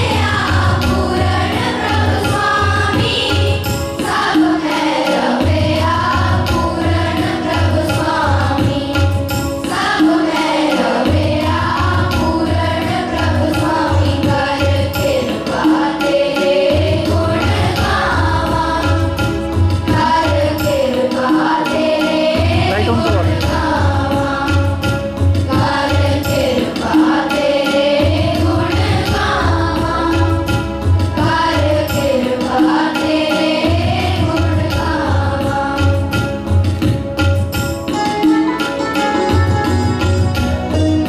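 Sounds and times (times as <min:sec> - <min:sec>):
steady low drum beat: 0:00.0 - 0:15.9, 0:16.7 - 0:21.6, 0:22.4 - 0:27.3, 0:28.0 - 0:38.0
group singing a hymn: 0:00.0 - 0:37.0.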